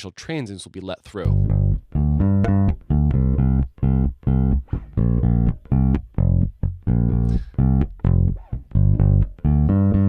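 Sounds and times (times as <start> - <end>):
electric bass guitar short notes: 1.2 - 10.0.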